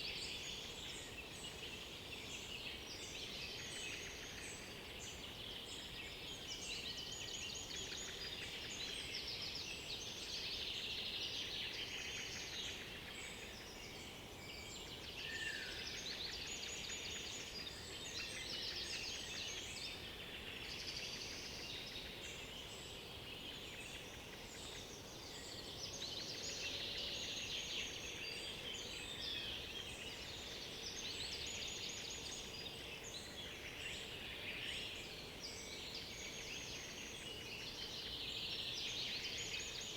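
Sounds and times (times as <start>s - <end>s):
faint steady hiss: 0.0s - 39.9s
songbirds singing: 0.0s - 39.9s.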